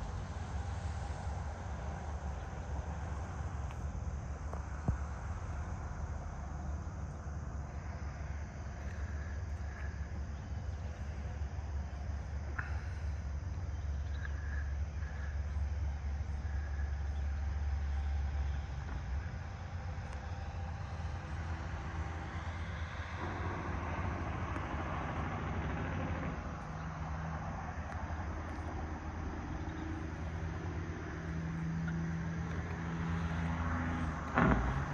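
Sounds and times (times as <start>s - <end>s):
low rumble: 0.0s - 34.9s
vehicle tyres hissing past: 0.0s - 34.9s.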